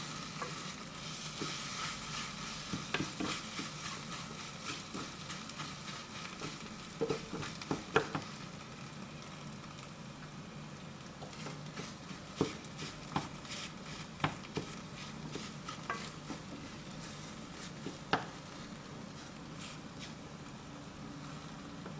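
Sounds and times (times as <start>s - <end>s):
food sizzling in a pan: 0.0s - 21.9s.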